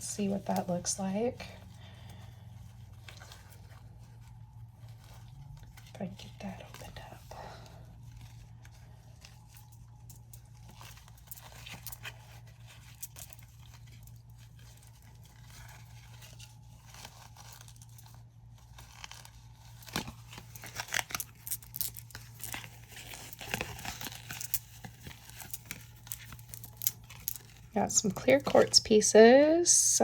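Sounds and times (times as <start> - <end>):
package crinkling and tearing: 1.6 - 28.9.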